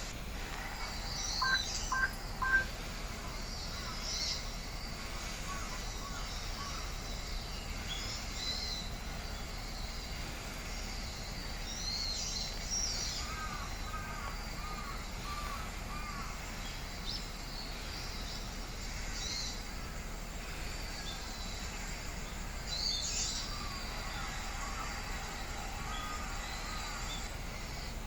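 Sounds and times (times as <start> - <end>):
birds chirping and trilling: 0.0 - 28.0
steady low background noise: 0.0 - 28.0.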